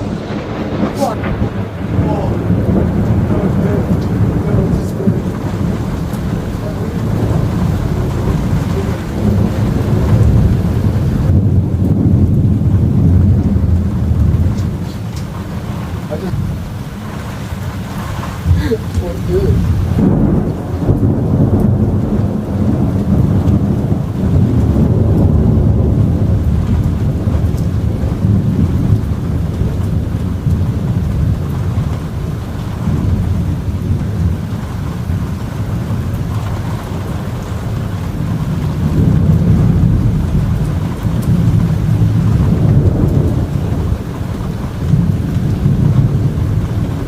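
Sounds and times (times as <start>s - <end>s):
rain falling: 0.0s - 47.0s
rolling thunder: 0.0s - 47.0s.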